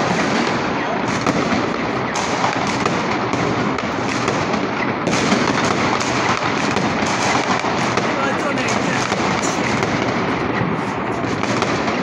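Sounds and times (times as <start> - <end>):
firework bangs: 0.0 - 12.0
fireworks crackling and popping: 0.0 - 12.0.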